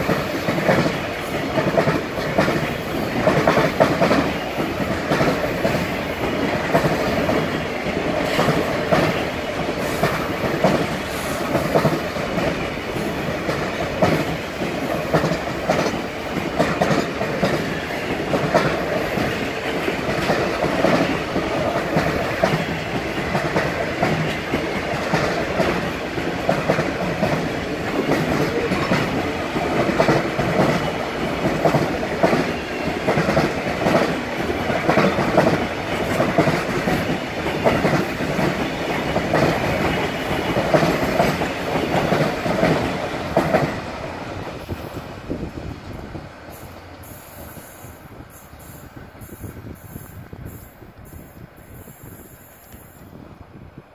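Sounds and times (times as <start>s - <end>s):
train wheels clattering over track: 0.0s - 53.2s.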